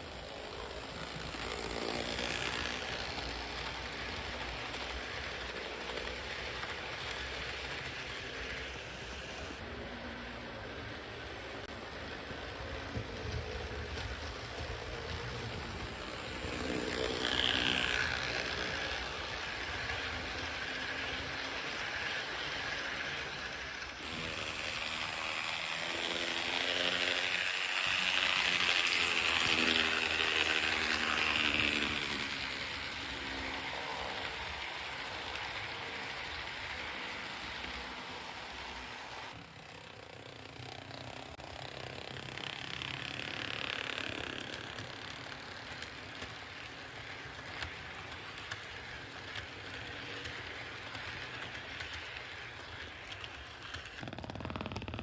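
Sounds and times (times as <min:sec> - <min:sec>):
model train motor whirring: 0:00.0 - 0:55.0
wheels rattling on rails: 0:00.0 - 0:55.0.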